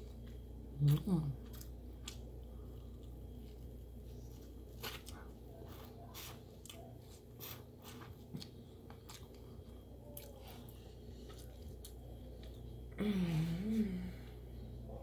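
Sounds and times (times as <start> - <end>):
wet chewing: 0.0 - 12.8
low steady hum: 0.0 - 15.0.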